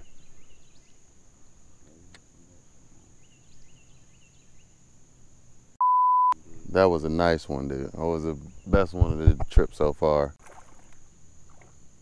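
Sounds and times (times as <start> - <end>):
insects droning: 0.0 - 5.8, 6.4 - 12.0.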